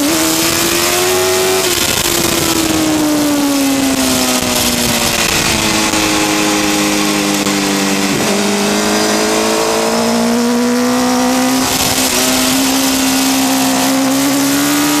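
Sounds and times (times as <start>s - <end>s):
motorcycle engine at high revs: 0.0s - 15.0s
wind rushing: 0.7s - 15.0s.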